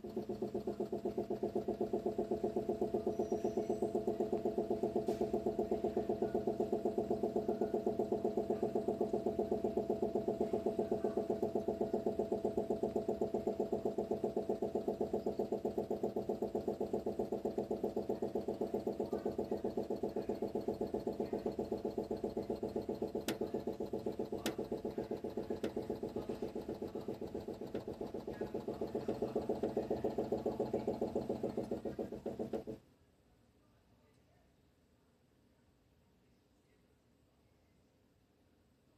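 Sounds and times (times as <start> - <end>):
sharp clicks: 0.0 - 32.8
water heater pulsing hum: 0.0 - 32.8.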